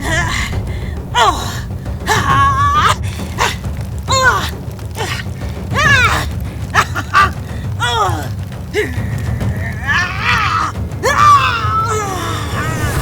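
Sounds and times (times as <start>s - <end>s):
low music bed: 0.0s - 13.0s.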